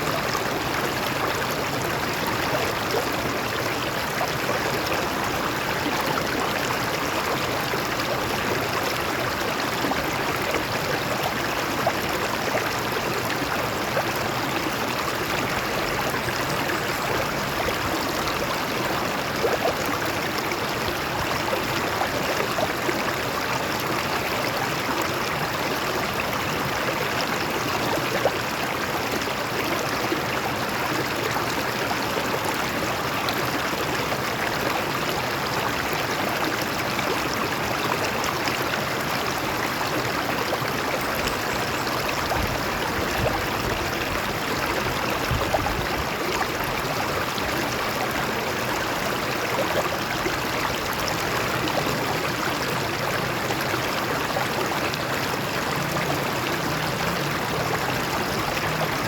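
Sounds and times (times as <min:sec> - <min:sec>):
stream water over rocks: 0:00.0 - 0:59.0.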